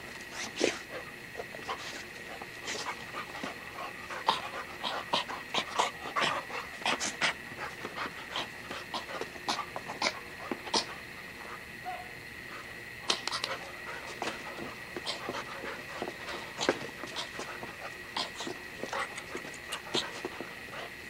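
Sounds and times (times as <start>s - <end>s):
dog panting: 0.2s - 21.0s.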